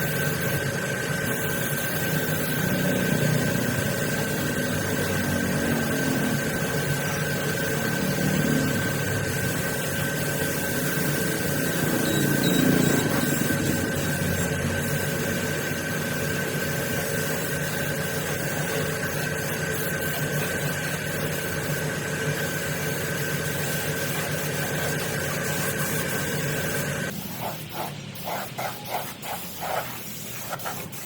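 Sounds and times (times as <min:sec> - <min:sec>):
machine running with high whine: 0:00.0 - 0:27.2
noisy hum: 0:00.0 - 0:29.4.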